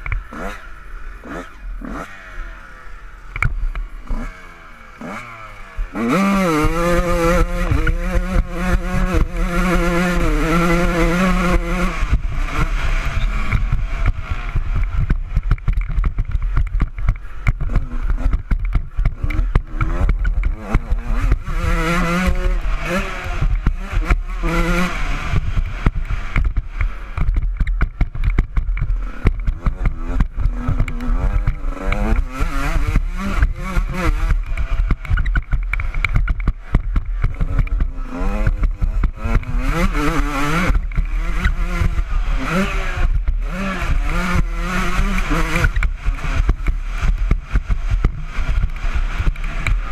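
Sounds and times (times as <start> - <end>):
motorbike engine revving: 0.0 - 49.9.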